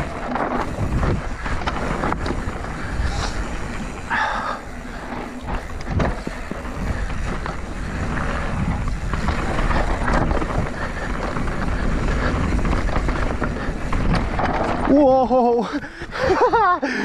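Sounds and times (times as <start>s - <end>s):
bike knocking over bumps: 0.0s - 15.6s
wind buffeting microphone: 0.0s - 16.6s
bike tyres rolling on rough ground: 0.0s - 17.0s.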